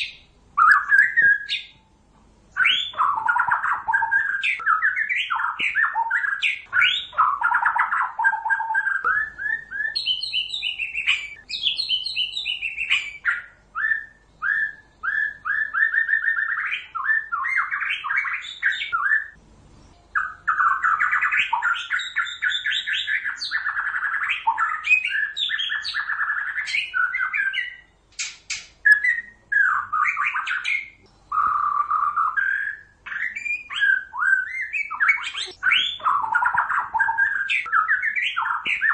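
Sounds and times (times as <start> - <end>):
bird singing whistled phrases: 0.0 - 1.9, 2.5 - 19.4, 20.2 - 28.0, 28.8 - 38.9.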